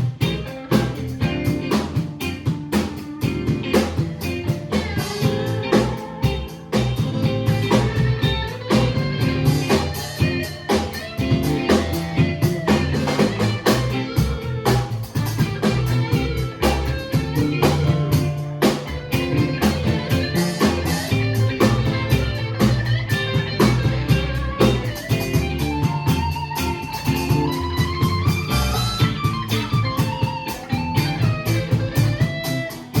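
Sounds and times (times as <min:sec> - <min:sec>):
bass: 0:00.0 - 0:33.0
drum kit: 0:00.0 - 0:33.0
electric guitar: 0:00.0 - 0:33.0.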